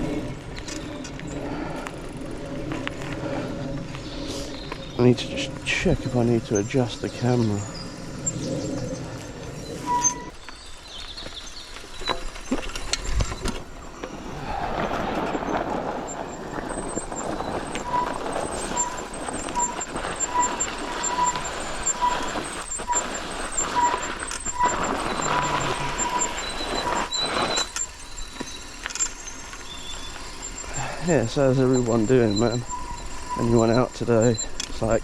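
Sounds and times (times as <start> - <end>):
bike tyre and frame rattle: 0.0 - 35.0.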